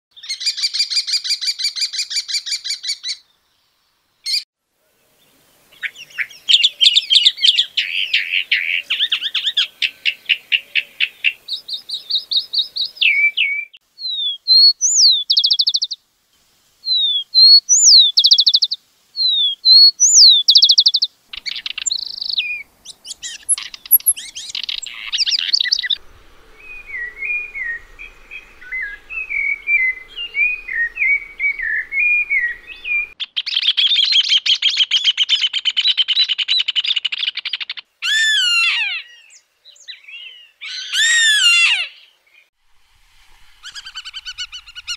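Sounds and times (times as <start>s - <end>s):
wren's jumbled song: 5.7s - 16.0s, 16.9s - 42.1s, 43.5s - 44.9s
mockingbird singing varied phrases: 5.8s - 16.0s, 16.8s - 26.0s, 26.6s - 42.1s, 43.6s - 44.9s.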